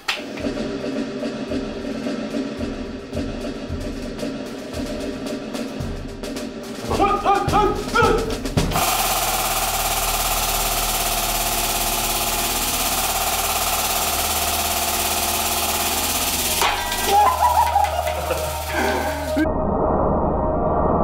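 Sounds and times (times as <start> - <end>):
dramatic music with drum hits: 0.1 - 15.3, 16.2 - 19.5.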